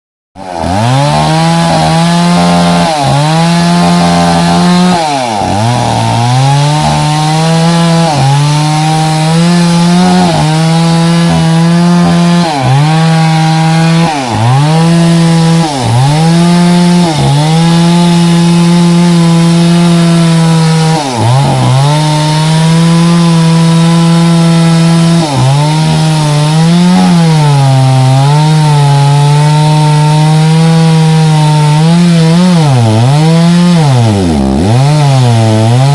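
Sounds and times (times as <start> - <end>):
chainsaw cutting wood: 0.4 - 35.9.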